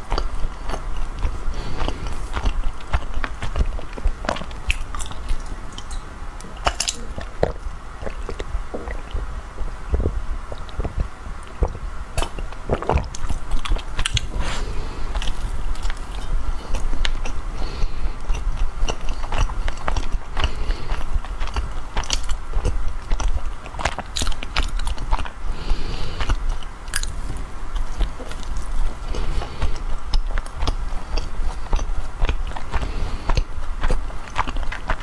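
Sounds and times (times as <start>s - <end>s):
person biting and chewing: 0.0s - 9.3s, 9.9s - 35.0s.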